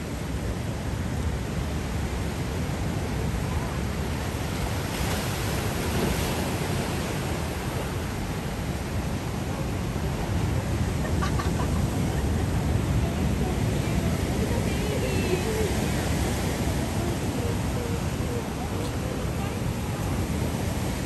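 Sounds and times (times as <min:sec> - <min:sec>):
surf washing up beach: 0:00.0 - 0:21.0.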